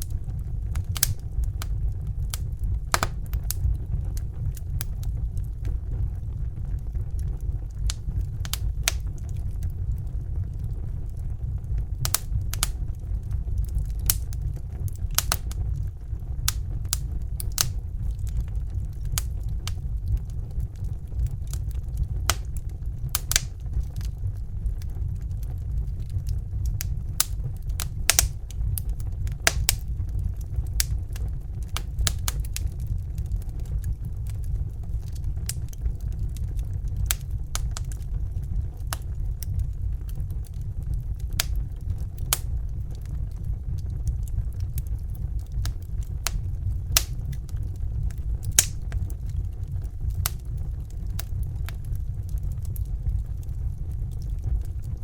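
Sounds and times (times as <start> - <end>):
fire crackling: 0.0 - 55.0
low rumble: 0.0 - 55.0.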